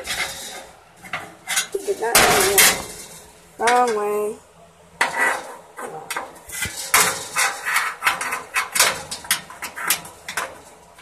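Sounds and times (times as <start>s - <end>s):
sheet metal clanking and rattling: 0.0s - 11.0s.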